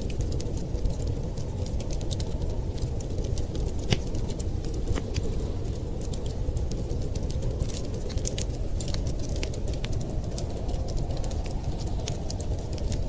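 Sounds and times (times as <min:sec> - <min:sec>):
low fire rumble: 0:00.0 - 0:13.0
wood fire pops: 0:00.0 - 0:13.0.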